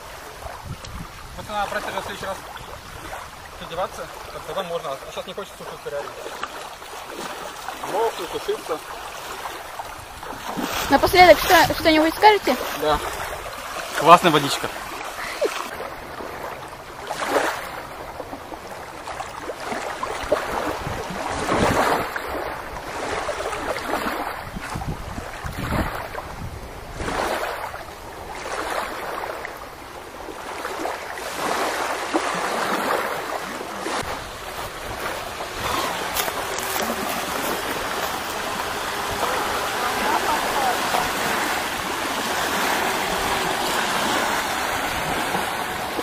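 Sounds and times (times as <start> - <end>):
small waves lapping on pebbles: 0.0 - 46.0.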